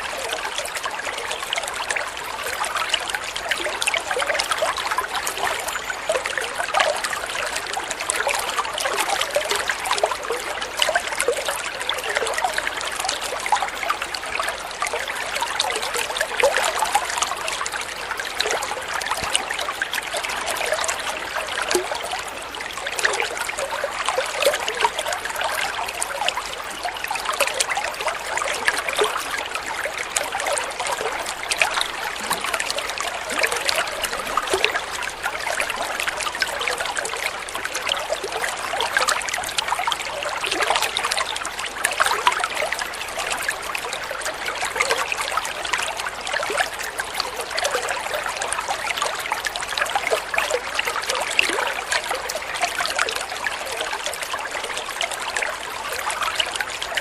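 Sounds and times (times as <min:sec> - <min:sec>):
water trickling and burbling: 0:00.0 - 0:57.0.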